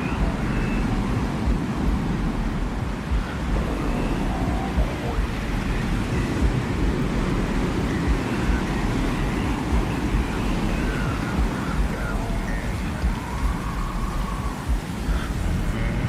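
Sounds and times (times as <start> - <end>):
faint whistling tones: 0.0 - 16.0
rumbling desert wind: 0.0 - 16.0.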